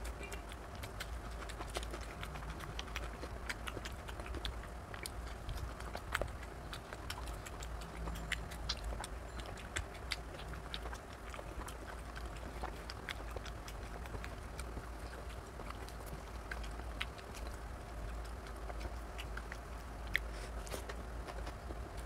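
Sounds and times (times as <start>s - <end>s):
low steady hum: 0.0s - 22.0s
man chewing food: 0.0s - 22.0s.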